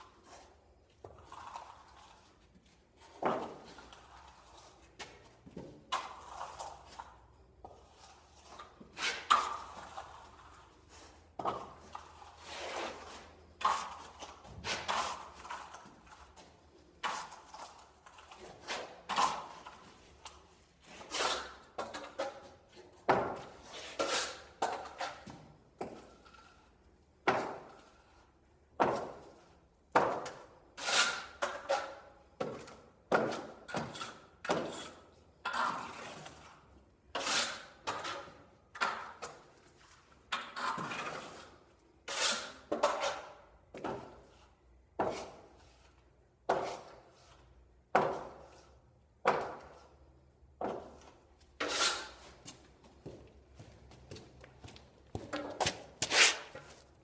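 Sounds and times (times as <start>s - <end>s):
trowel scraping plaster: 0.0s - 26.8s, 27.4s - 50.0s, 50.7s - 52.6s, 55.4s - 57.0s.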